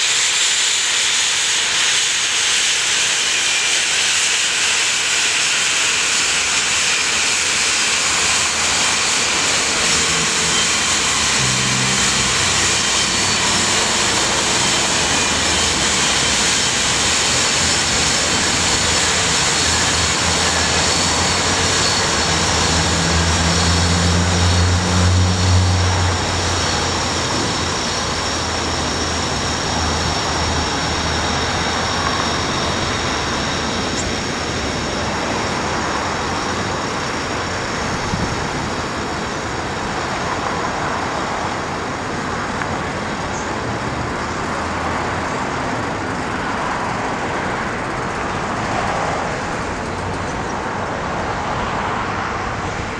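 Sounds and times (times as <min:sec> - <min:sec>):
helicopter engine whining: 0:00.0 - 0:51.4.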